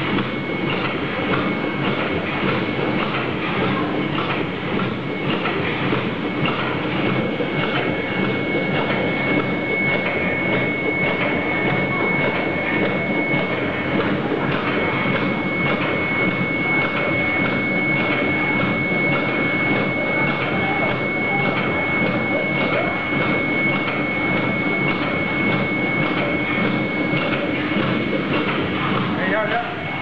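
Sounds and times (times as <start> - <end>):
constant high whine: 0.0 - 30.0
machine rhythmic clatter: 0.0 - 30.0.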